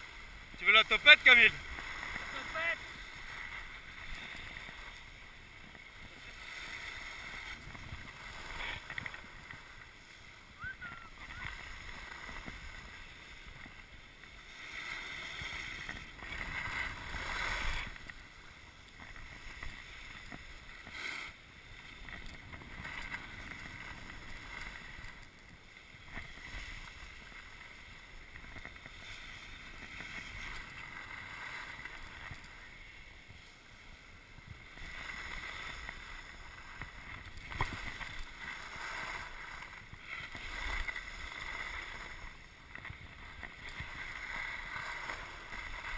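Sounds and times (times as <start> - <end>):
skis scraping over snow: 0.0 - 45.9.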